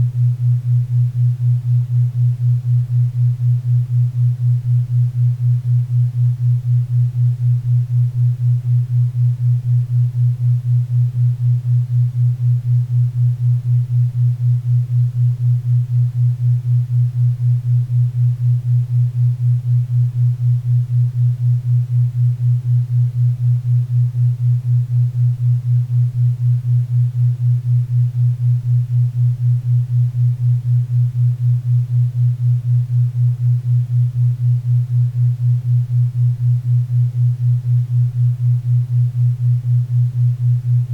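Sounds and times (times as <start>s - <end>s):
pulsing low hum tone: 0.0s - 40.9s.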